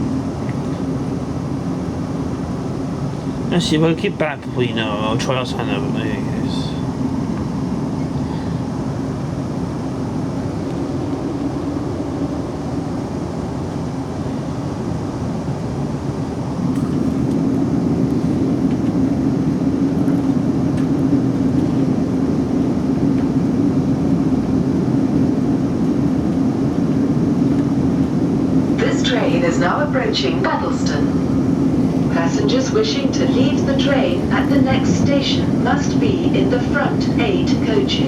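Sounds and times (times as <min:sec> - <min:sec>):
constant electric hum: 0:00.0 - 0:38.0
train interior rumble: 0:00.0 - 0:38.0.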